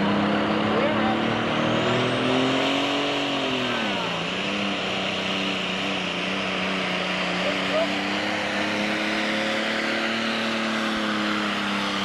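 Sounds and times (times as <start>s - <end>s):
diesel tractor engine revving: 0.0s - 12.0s.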